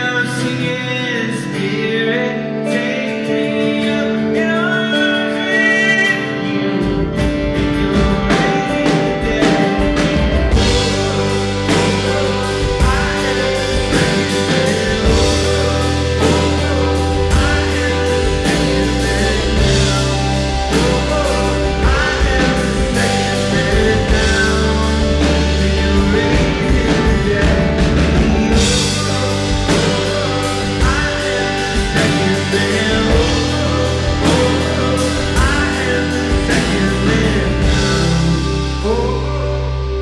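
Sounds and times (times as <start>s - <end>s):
bass guitar: 0.0s - 40.0s
electric guitars: 0.0s - 40.0s
drum kit: 2.7s - 40.0s.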